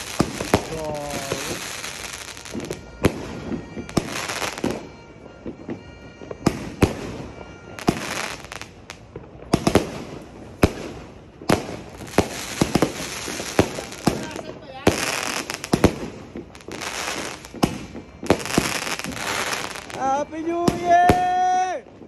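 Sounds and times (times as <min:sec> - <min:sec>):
crackling firework stars: 0:00.0 - 0:22.0
fireworks bangs: 0:00.0 - 0:22.0.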